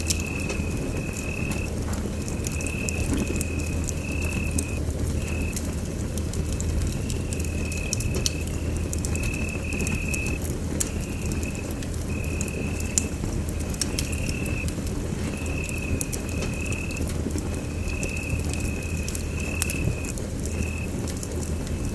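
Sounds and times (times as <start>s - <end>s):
fire crackling and popping: 0.0s - 21.9s
fire low rumble: 0.0s - 21.9s.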